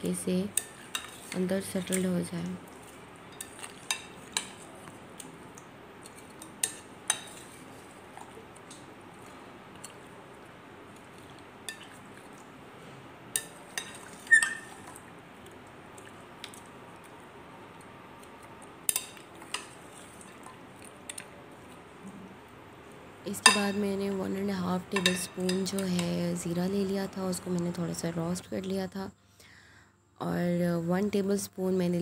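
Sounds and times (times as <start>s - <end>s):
low steady background hiss: 0.0s - 32.0s.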